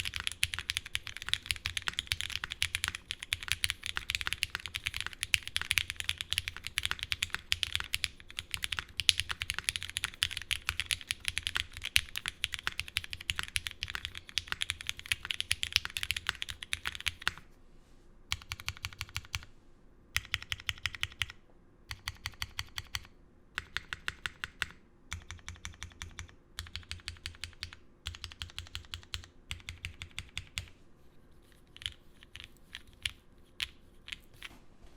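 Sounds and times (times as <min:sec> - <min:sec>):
mechanical keyboard typing: 0:00.0 - 0:17.4, 0:18.3 - 0:19.5, 0:20.2 - 0:30.7, 0:31.6 - 0:34.6.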